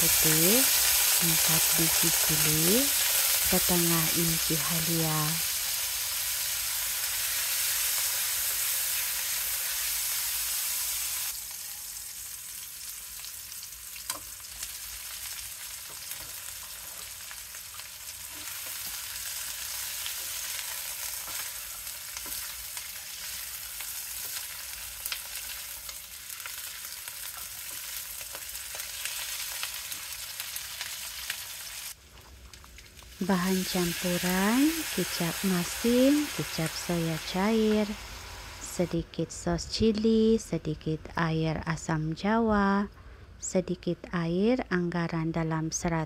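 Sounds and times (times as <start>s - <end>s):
oil sizzling in a wok: 0.0s - 39.0s.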